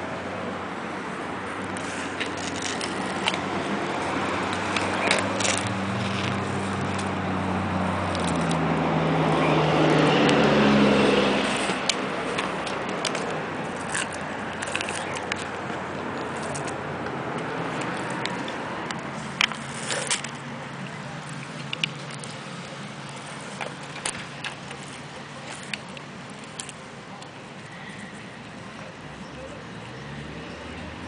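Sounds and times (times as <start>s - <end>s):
vehicle engine hum: 0.0s - 31.0s
tortoise biting corn: 1.3s - 31.0s.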